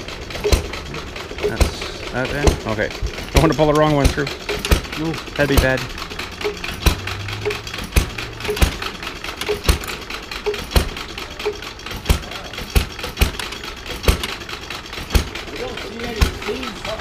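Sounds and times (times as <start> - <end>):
sharp mechanical knocks: 0.0 - 17.0
small engine running: 0.0 - 17.0.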